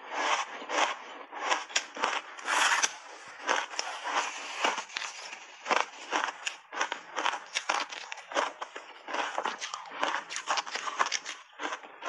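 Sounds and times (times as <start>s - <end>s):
chewing ice crunches: 0.0s - 12.0s.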